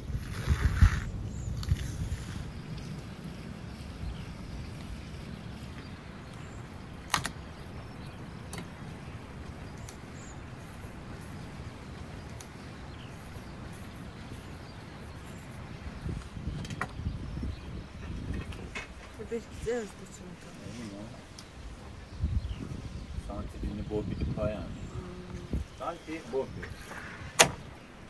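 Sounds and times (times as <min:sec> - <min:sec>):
low wind rumble: 0:00.0 - 0:28.0.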